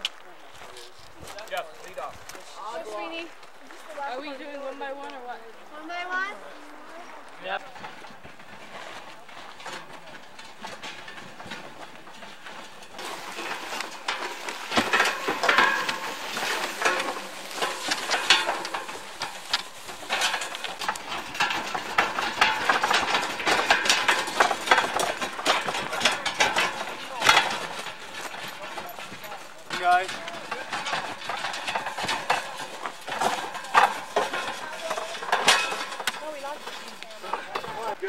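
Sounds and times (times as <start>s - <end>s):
footsteps on gravel: 0.0s - 38.0s
wooden handcart rattling over rocks: 0.0s - 38.0s.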